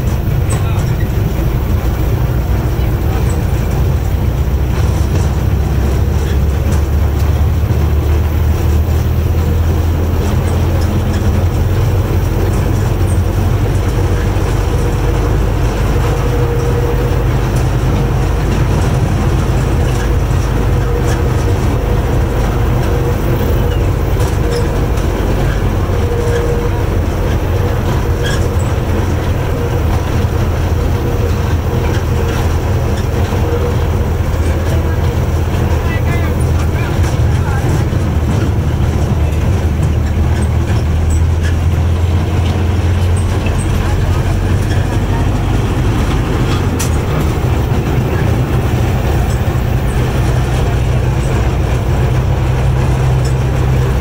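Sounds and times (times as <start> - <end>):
rail car rumble: 0.0 - 54.0
wheels rattling over rails: 0.0 - 54.0
faint wheel squeal: 9.7 - 54.0.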